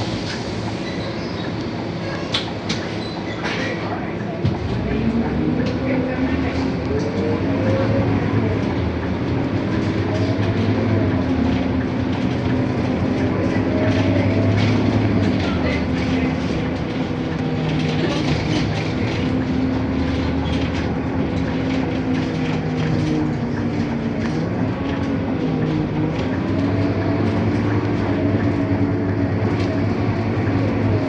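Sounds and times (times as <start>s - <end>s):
bus diesel engine humming: 0.0s - 31.0s.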